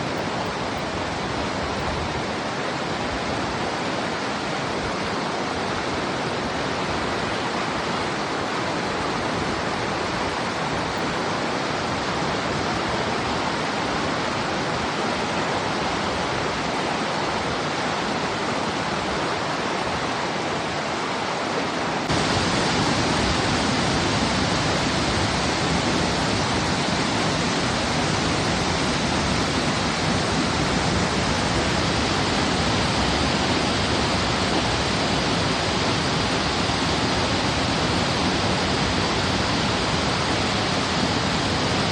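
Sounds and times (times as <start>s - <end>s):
fast-flowing river water rushing: 0.0s - 41.9s.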